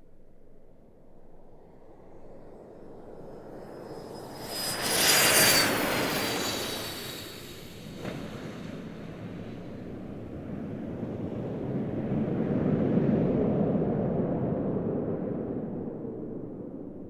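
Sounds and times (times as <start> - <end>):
jet engine rumble: 1.2 - 17.0.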